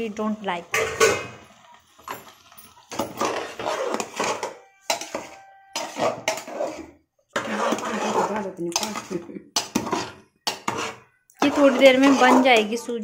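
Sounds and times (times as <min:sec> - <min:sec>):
metal ladle scraping pot: 0:00.7 - 0:13.0.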